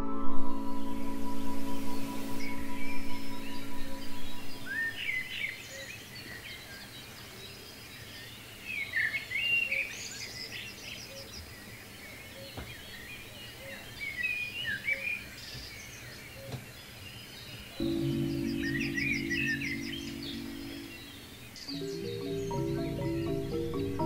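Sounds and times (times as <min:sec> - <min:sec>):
faint steady hiss: 0:00.3 - 0:24.0
songbirds chirping and singing: 0:00.6 - 0:24.0.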